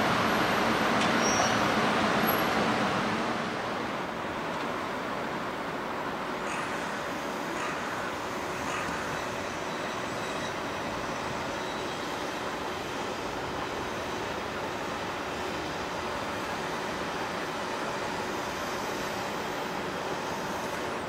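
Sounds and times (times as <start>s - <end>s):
street traffic: 0.0s - 21.0s
tram electric running noise: 0.0s - 21.0s.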